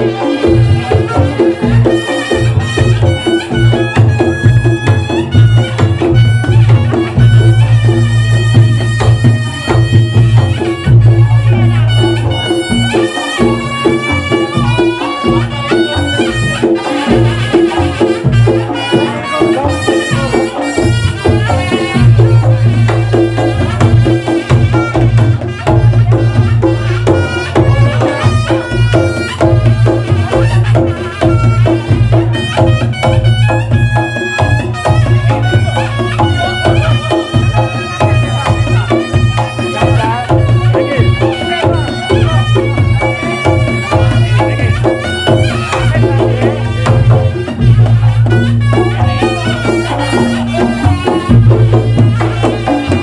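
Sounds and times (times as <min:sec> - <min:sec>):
gamelan music: 0:00.0 - 0:53.0
hand drum beat: 0:00.0 - 0:53.0
pitched melody: 0:00.0 - 0:53.0.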